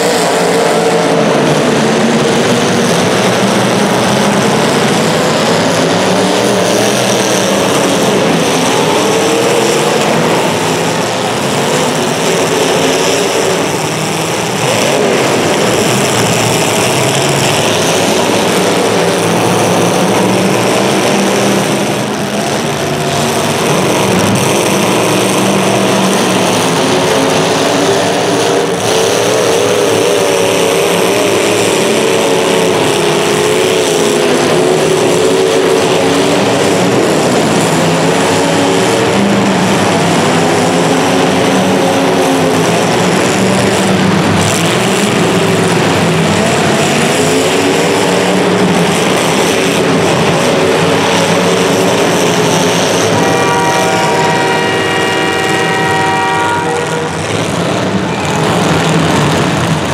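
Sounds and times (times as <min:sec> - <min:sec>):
racing engines: 0:00.0 - 0:59.9.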